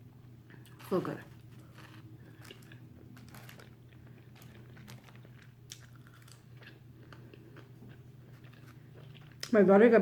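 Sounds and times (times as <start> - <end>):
steady low hum: 0.0 - 10.0
person chewing with mouth smacks: 1.5 - 9.6.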